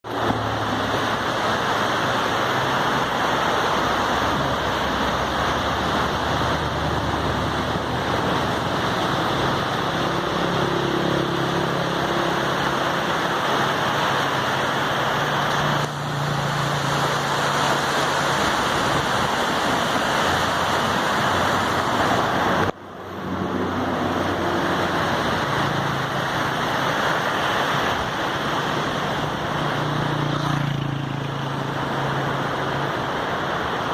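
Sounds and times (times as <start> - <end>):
fast-flowing river rushing: 0.1 - 33.9.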